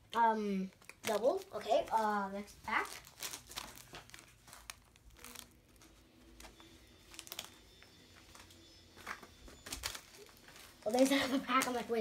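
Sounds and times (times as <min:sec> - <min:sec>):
packaging crinkling: 0:00.7 - 0:12.0.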